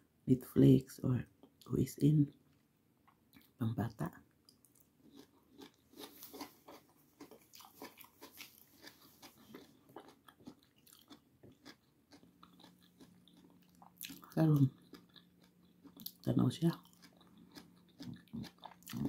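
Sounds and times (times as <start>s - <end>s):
chewing food: 1.3s - 3.6s, 4.4s - 19.0s.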